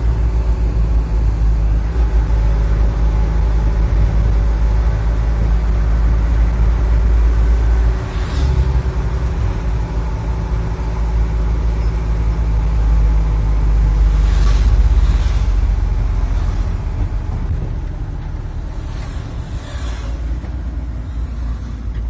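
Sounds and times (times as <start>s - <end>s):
car engine and tyres rumbling: 0.0s - 22.0s
vehicles swishing past: 1.3s - 22.0s.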